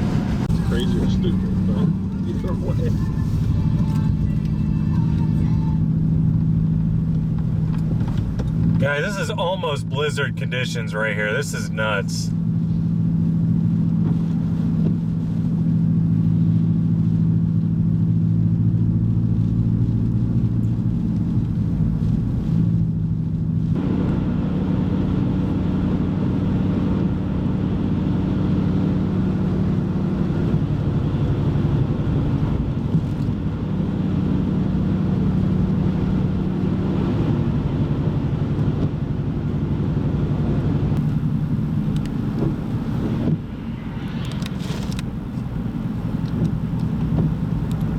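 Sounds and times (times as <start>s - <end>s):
car engine hum: 0.0s - 47.9s
road and wind noise: 0.0s - 47.9s.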